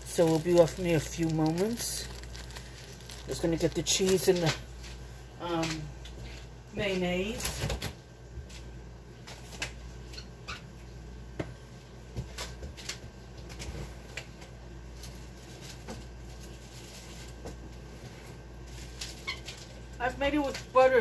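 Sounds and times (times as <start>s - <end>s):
steady low hum: 0.0s - 19.1s.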